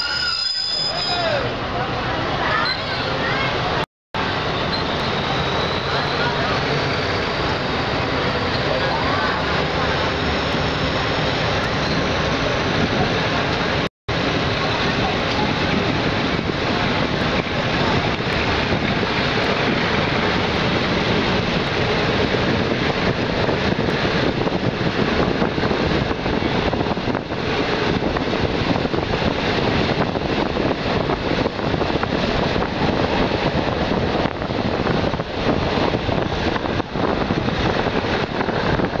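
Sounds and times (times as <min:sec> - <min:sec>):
train wheel and rail noise: 0:00.0 - 0:39.0
wind buffeting microphone: 0:06.0 - 0:39.0.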